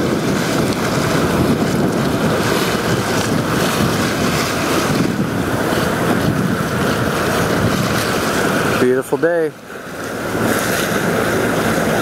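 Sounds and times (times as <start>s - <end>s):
sea water rushing along hull: 0.0s - 12.0s
wind buffeting microphone: 0.0s - 12.0s.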